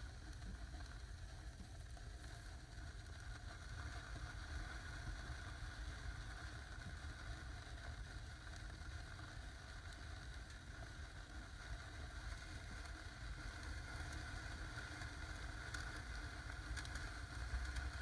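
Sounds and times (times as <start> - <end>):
firework fountains rumbling and hissing: 0.0 - 18.0.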